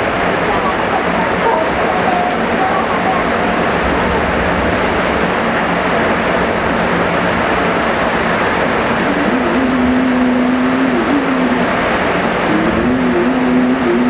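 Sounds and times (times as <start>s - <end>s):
heavy rain hissing: 0.0s - 14.0s
low hum: 0.0s - 14.0s.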